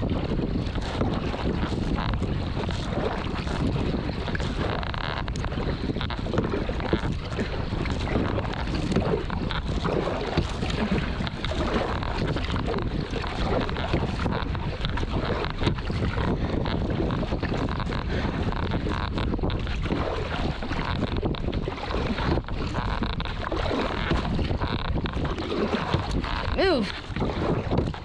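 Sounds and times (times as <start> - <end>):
water splashing from kayak: 0.0 - 28.0
wind rumbling on microphone: 0.0 - 28.0.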